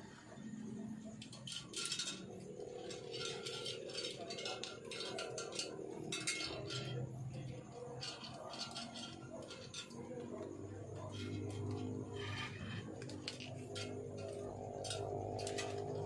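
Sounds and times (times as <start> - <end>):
copper wire clinking and rustling: 0.2 - 16.0.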